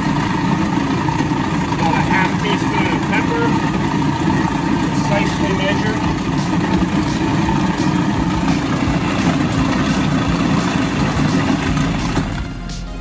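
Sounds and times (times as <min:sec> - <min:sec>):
food processor motor running: 0:00.0 - 0:12.6.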